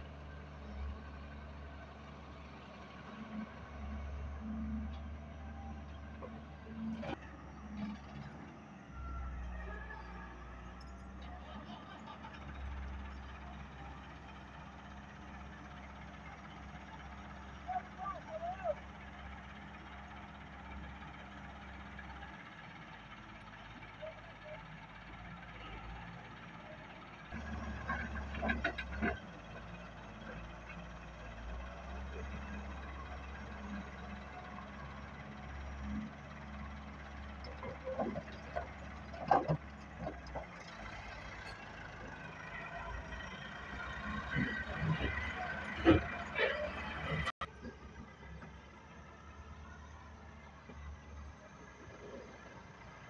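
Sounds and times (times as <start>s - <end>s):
diesel engine hum: 0.0s - 53.0s.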